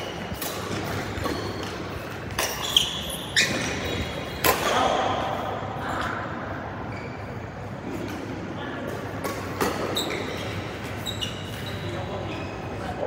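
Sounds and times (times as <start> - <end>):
shoes squeaking on court floor: 0.0 - 5.2, 6.7 - 8.4, 9.0 - 13.0.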